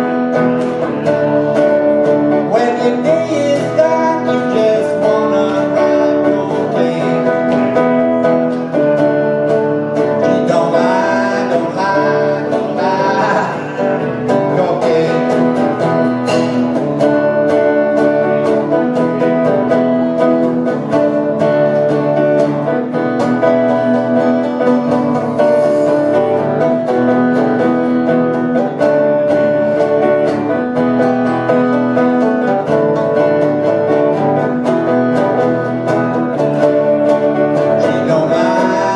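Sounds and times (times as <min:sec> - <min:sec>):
acoustic guitar picking: 0:00.0 - 0:38.9.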